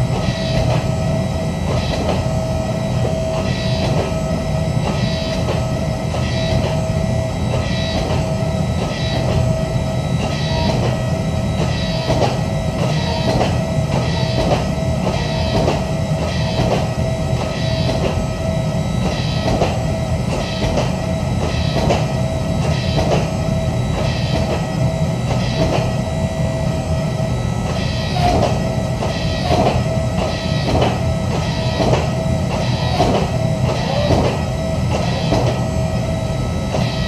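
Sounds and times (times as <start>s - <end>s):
forging press roar: 0.0s - 37.0s
steady whine: 0.0s - 37.0s.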